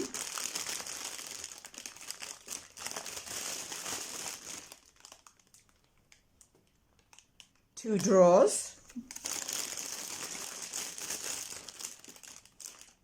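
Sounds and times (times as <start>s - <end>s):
packaging crinkling and rustling: 0.0s - 8.2s, 8.8s - 13.0s.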